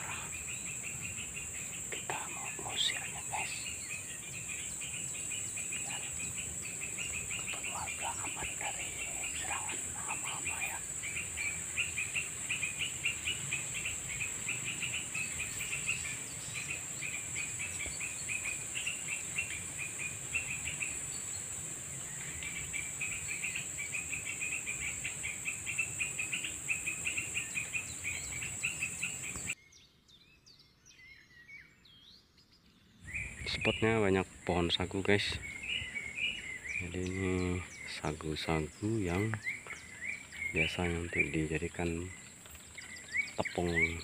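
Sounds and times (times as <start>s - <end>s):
insects chirping: 0.0s - 29.6s, 31.0s - 44.0s
insects droning: 0.0s - 29.6s, 32.4s - 44.0s.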